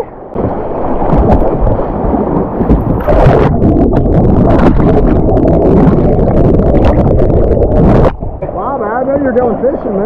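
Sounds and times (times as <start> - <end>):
water splashes: 0.0 - 10.0
wind buffeting microphone: 0.0 - 10.0.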